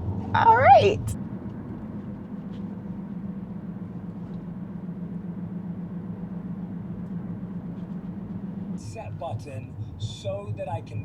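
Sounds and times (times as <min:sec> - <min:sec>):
vehicle humming: 0:00.0 - 0:11.0.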